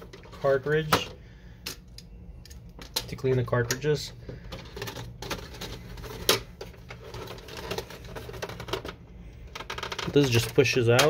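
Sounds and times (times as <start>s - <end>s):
plastic parts clicking and scraping: 0.0s - 11.0s.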